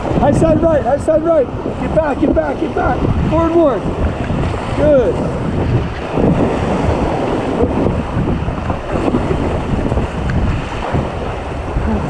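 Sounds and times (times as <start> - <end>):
river water rushing and splashing: 0.0 - 12.0
wind buffeting microphone: 0.0 - 12.0.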